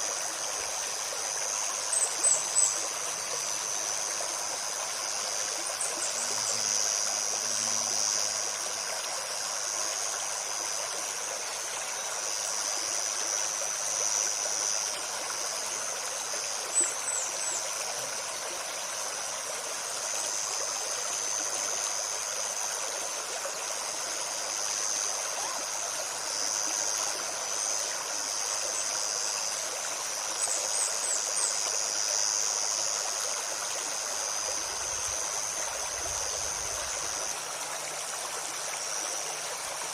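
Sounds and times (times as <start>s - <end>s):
high insect buzz: 0.0s - 39.9s
stream babbling: 0.0s - 39.9s.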